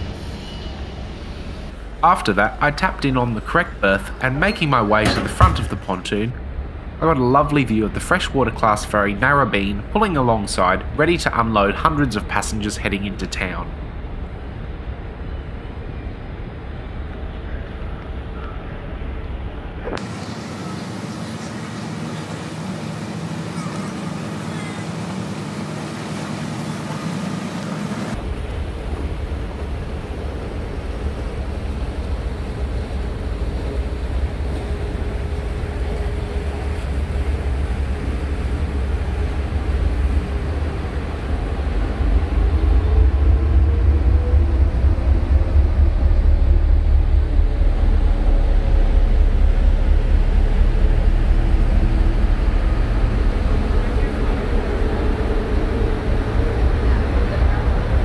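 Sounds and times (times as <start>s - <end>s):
ferry diesel engines rumbling: 0.0s - 58.0s.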